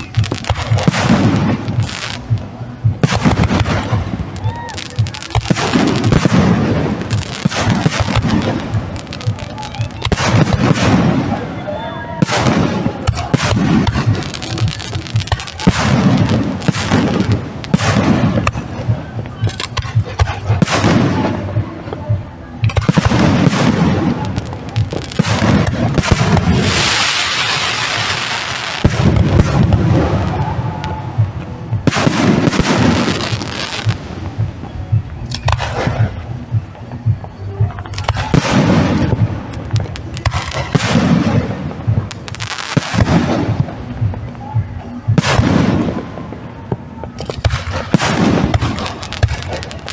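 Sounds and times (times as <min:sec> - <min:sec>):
steady low rumble: 0:00.0 - 0:11.6, 0:12.2 - 0:27.2, 0:28.0 - 0:49.9
fireworks bangs and booms: 0:00.0 - 0:49.9
fireworks crackling bursts: 0:00.0 - 0:49.9.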